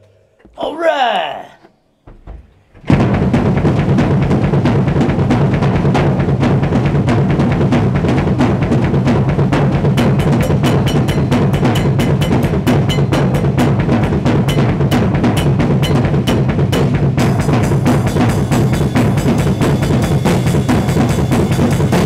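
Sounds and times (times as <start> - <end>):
fast metal drumming: 2.2 - 22.0.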